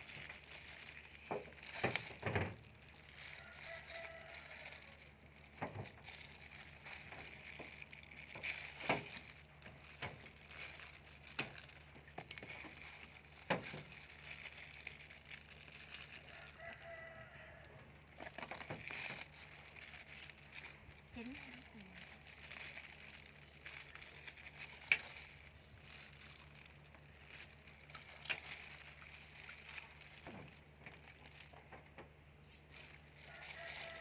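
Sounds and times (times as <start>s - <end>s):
durian husk cracking: 0.0s - 34.0s.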